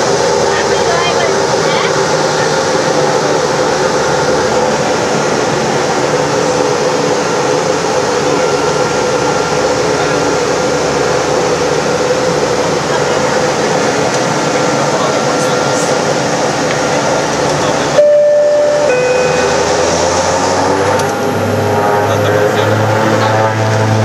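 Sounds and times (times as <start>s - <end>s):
plane engine drone in cabin: 0.0s - 24.0s.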